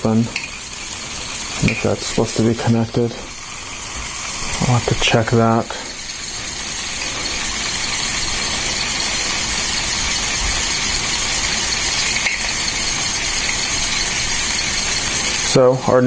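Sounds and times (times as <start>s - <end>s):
toy motor whirring: 0.0s - 16.0s.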